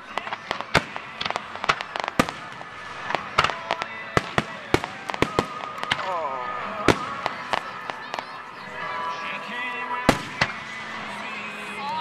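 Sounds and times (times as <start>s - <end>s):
steady crackling: 0.0s - 12.0s.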